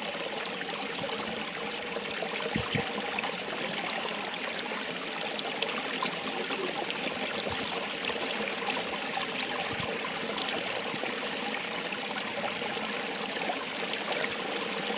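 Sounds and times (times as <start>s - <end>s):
stream water rushing and trickling: 0.0s - 14.9s.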